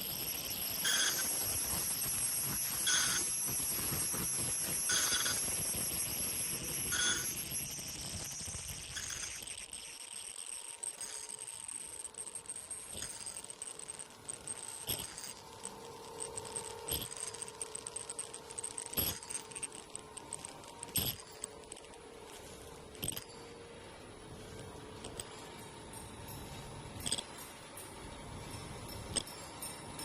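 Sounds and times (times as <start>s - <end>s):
sewing machine whine: 0.0s - 25.6s.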